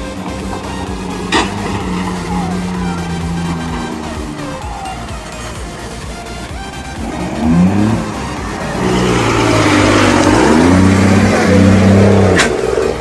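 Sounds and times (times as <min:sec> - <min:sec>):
diesel truck engine revving: 0:00.0 - 0:13.0
rushing noise: 0:00.0 - 0:13.0.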